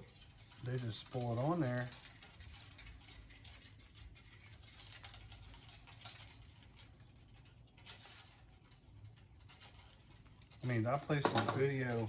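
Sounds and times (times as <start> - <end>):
hands rustling wire spool: 0.0 - 12.0.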